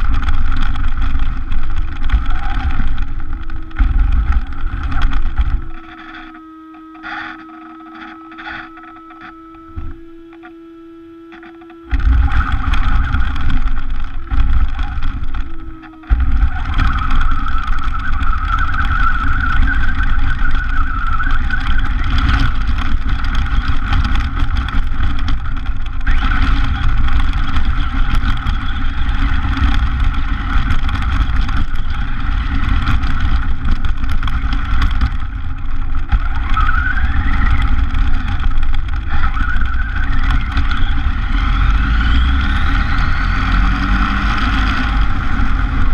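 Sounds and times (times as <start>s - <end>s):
toy car motor running: 0.0s - 10.5s, 11.4s - 45.9s
tyres on gravel and pavement: 0.0s - 10.5s, 11.4s - 45.9s
rising motor whine: 0.0s - 45.9s.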